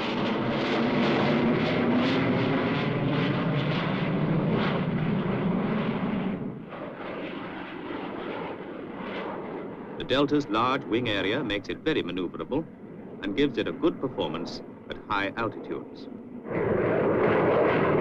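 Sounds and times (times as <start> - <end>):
jet bomber flying overhead: 0.0 - 18.0.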